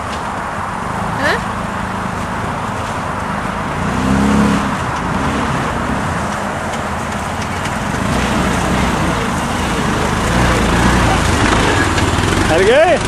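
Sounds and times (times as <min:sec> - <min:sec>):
vehicle engine running under load: 0:00.0 - 0:13.0.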